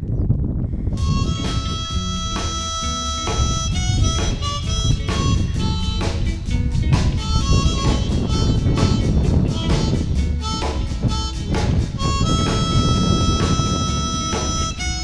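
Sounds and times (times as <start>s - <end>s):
blues harmonica: 1.0s - 15.0s
steady drum beat: 1.0s - 15.0s.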